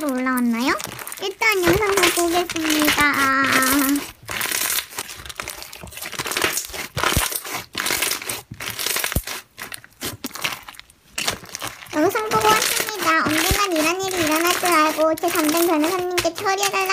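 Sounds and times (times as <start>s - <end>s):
slime crackling and popping: 0.0s - 16.9s.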